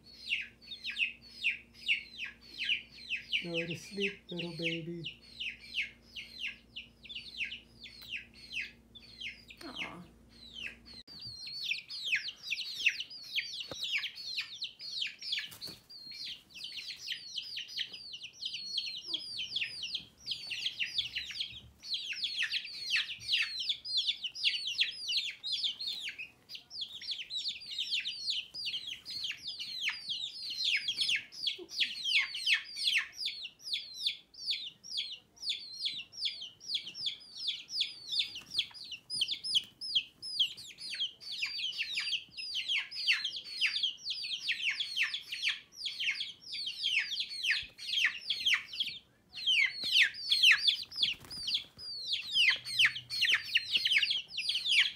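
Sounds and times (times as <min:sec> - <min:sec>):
baby chicks peeping: 0:00.0 - 0:54.9.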